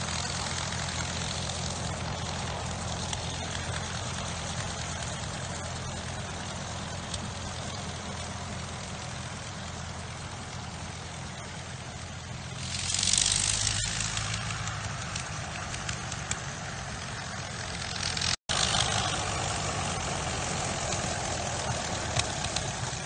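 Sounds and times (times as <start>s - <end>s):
loud rushing hiss: 0.0s - 23.0s
rotary aircraft engine drone: 0.0s - 23.0s.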